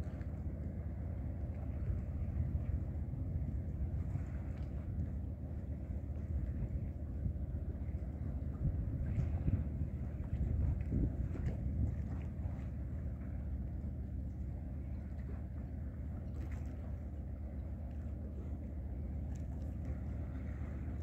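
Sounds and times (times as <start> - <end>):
even hum: 0.0 - 21.0
ship engine rumbling: 0.0 - 21.0.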